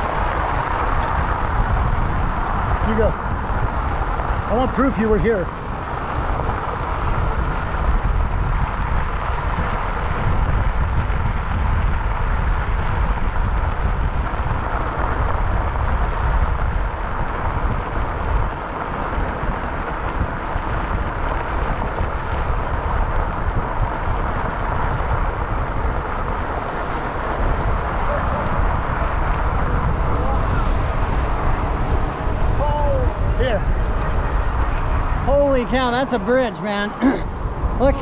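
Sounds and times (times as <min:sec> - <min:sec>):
bicycle tyres on gravel: 0:00.0 - 0:38.0
wind buffeting microphone: 0:00.0 - 0:38.0.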